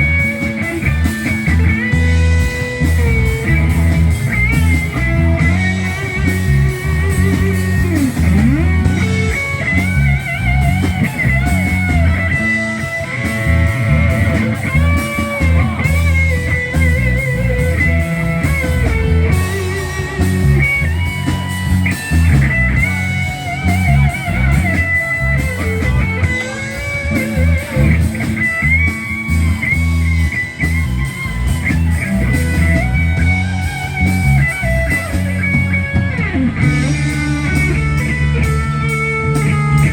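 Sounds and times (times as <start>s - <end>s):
bass guitar: 0.0s - 39.9s
electric guitar lead with bent notes: 0.0s - 39.9s
steady low backing: 0.0s - 39.9s.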